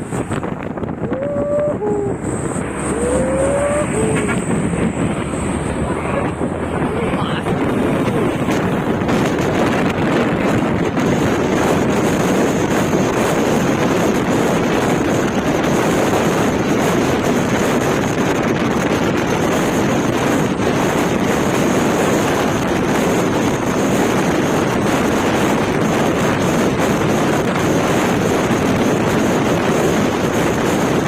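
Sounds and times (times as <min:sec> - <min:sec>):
moving vehicle noise: 0:00.0 - 0:31.0
wind buffeting microphone: 0:00.0 - 0:31.0.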